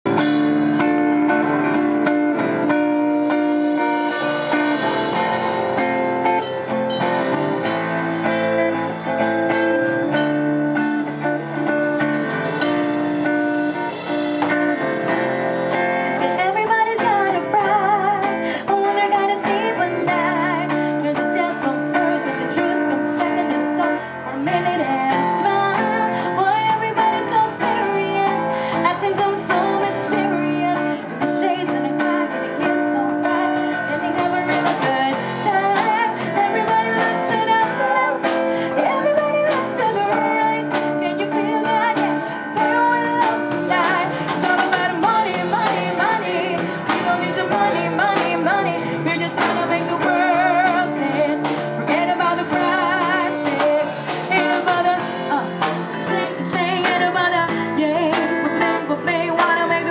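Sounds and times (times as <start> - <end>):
drum kit: 0.0 - 59.9
electric bass: 0.0 - 59.9
electric guitar: 0.0 - 59.9
woman singing: 0.1 - 59.9.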